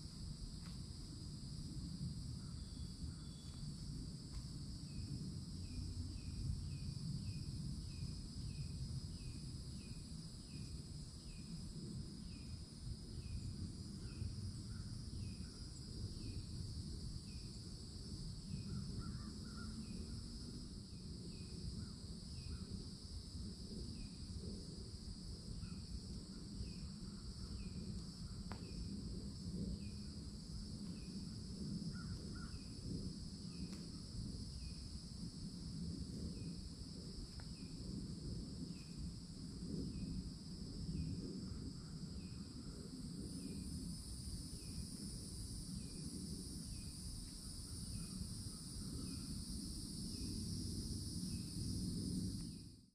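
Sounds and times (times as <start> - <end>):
faint lower insect calls: 0.0 - 52.9
high insect drone: 0.0 - 52.9.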